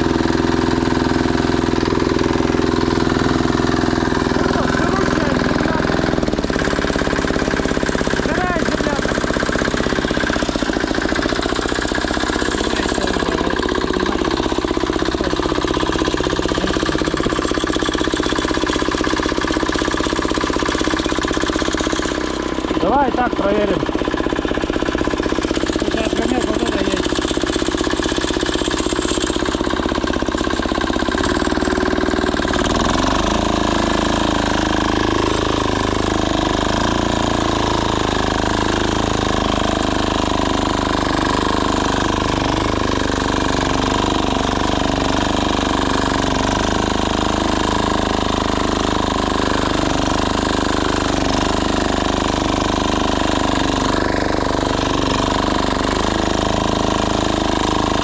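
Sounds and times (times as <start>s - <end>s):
diesel tractor engine running: 0.0s - 58.0s
tiller tines working soil: 0.0s - 58.0s.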